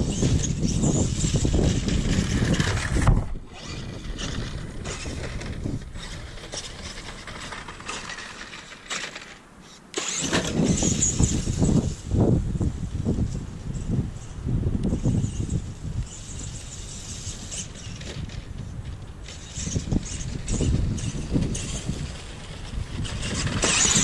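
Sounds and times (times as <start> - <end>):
rc truck electric motors surging: 0.0 - 24.0.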